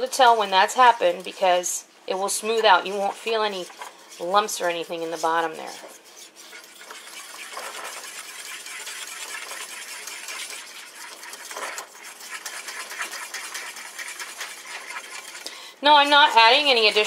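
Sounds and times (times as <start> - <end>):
utensil scraping saucepan: 0.0 - 17.0.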